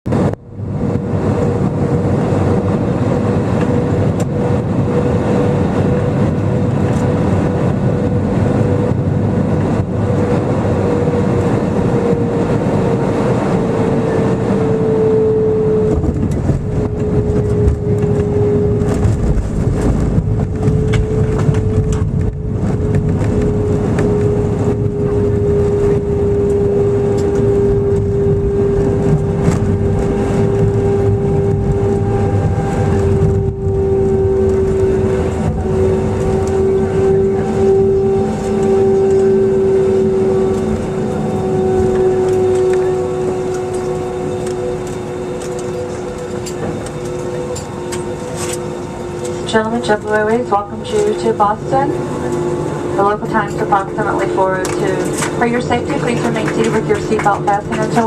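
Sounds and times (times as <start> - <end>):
jet engine whine: 0.0 - 58.0
aircraft cabin rumble: 0.1 - 58.0.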